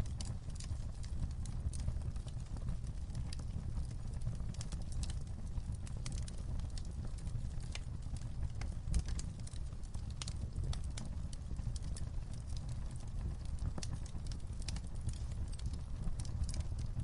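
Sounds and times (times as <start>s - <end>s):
low rumble of flame: 0.0s - 17.0s
wood fire crackling: 0.0s - 17.0s.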